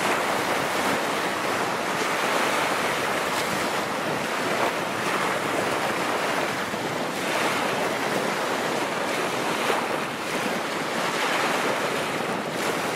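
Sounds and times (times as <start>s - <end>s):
choppy water splashing: 0.0s - 12.9s.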